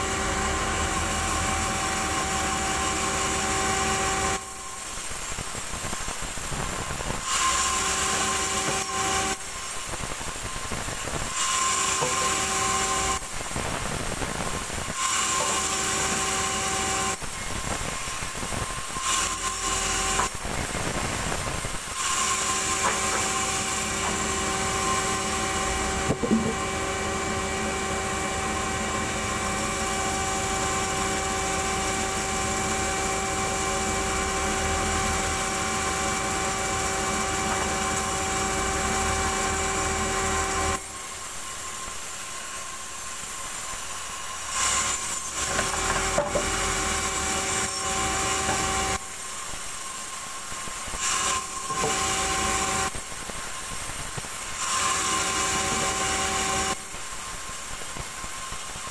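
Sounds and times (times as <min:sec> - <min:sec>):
band saw cutting timber: 0:00.0 - 0:05.2, 0:05.8 - 0:53.2, 0:54.1 - 0:57.0
sawmill running hum: 0:00.0 - 0:58.9.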